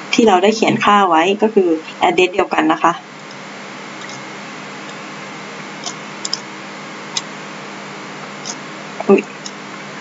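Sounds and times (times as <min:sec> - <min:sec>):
faint hum: 0:00.0 - 0:10.0
microphone hiss: 0:00.0 - 0:10.0.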